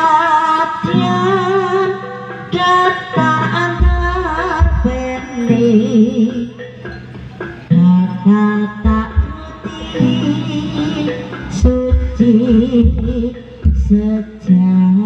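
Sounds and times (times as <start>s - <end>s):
person singing ornamented melody: 0.0s - 7.0s, 7.7s - 15.0s
sustained instrumental tones: 0.6s - 15.0s.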